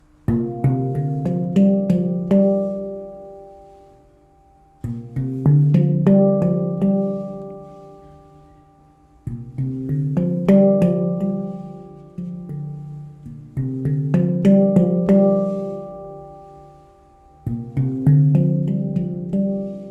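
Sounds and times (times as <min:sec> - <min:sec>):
handpan arpeggios: 0:00.0 - 0:19.9.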